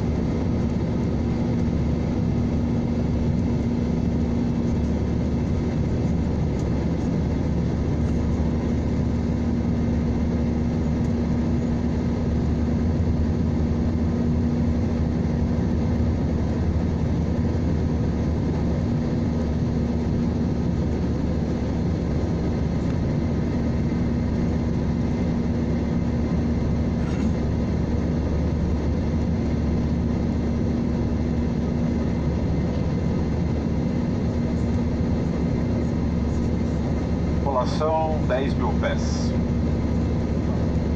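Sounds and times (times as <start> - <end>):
constant low hum: 0.0 - 40.9
jet engines roaring: 0.0 - 40.9.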